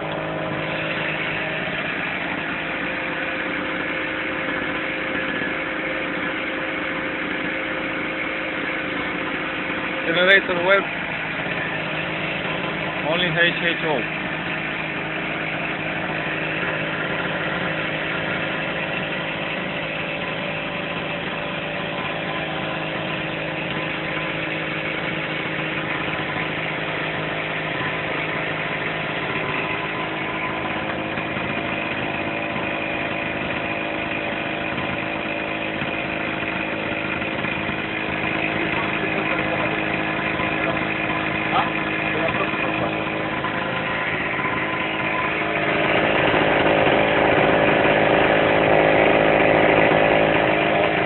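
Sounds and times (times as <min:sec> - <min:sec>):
generator engine running: 0:00.0 - 0:51.0.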